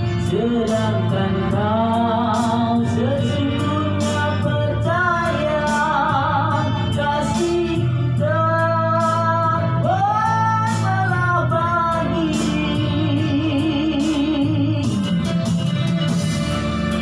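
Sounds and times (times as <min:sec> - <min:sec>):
band backing: 0:00.0 - 0:17.0.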